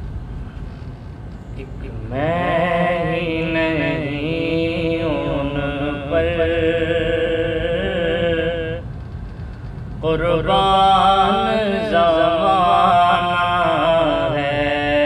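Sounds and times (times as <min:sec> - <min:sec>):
man singing: 0:01.6 - 0:08.8, 0:10.0 - 0:15.0.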